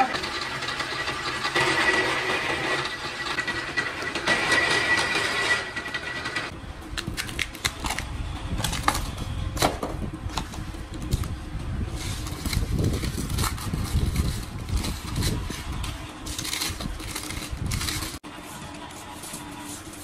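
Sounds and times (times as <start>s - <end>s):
wire-stripping machine running: 0.0s - 9.4s, 10.7s - 18.9s.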